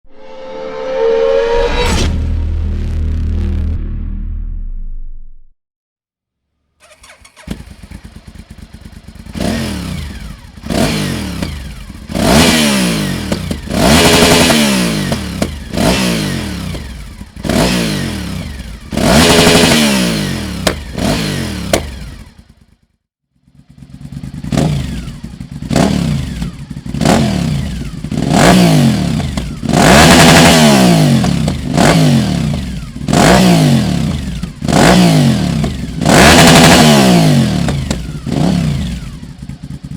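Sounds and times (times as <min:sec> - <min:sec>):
motorcycle engine revving: 0:06.8 - 0:39.9.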